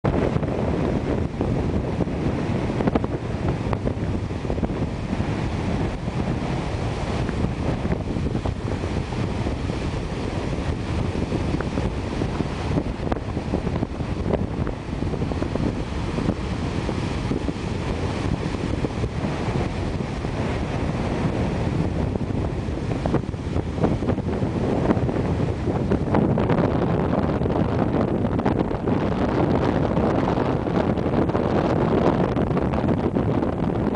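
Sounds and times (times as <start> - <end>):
heavy surf breaking on shore: 0.0 - 33.9
wind buffeting microphone: 0.0 - 33.9.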